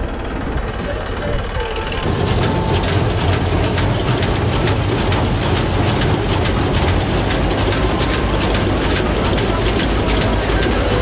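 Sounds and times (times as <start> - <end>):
combine harvester clattering: 0.0 - 11.0
low engine hum: 0.0 - 11.0
rapid ticking: 0.0 - 11.0.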